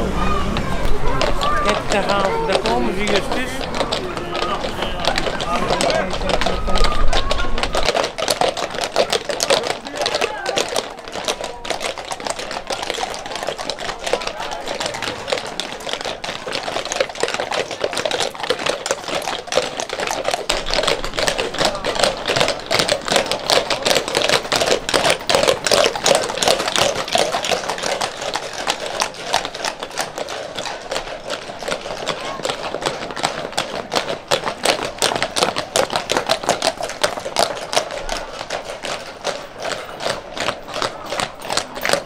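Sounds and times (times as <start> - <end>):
crowd chatter: 0.0 - 42.0
horse hooves on brick street: 0.0 - 42.0.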